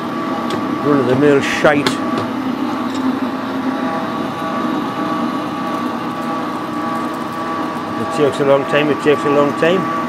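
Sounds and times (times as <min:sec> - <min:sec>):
metal lathe humming: 0:00.0 - 0:10.0
tool cutting spinning metal: 0:00.0 - 0:10.0.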